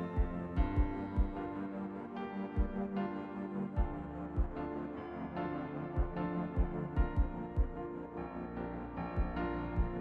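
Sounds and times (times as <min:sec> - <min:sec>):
sustained keyboard chords: 0:00.0 - 0:10.0.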